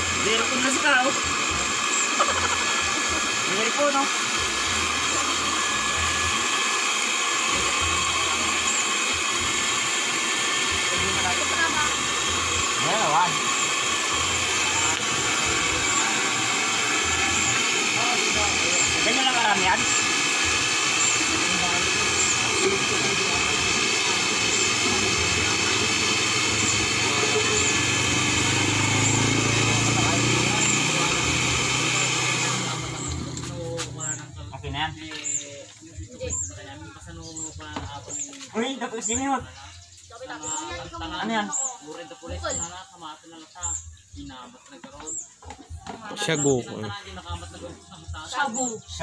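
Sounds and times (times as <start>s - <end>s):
electric blender running: 0.0s - 35.5s, 40.3s - 42.9s, 45.0s - 49.0s.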